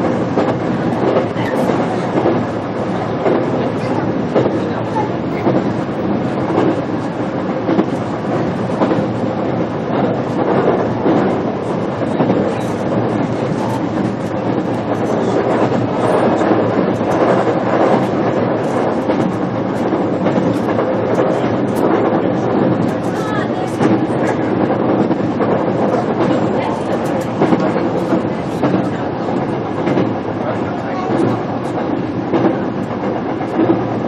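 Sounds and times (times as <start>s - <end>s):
track clacks: 0.0s - 34.0s
train wheels rumbling on rails: 0.0s - 34.0s.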